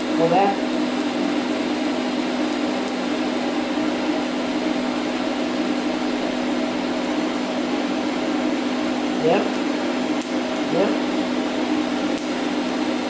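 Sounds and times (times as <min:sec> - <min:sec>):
welder hissing and humming: 0:00.0 - 0:13.0.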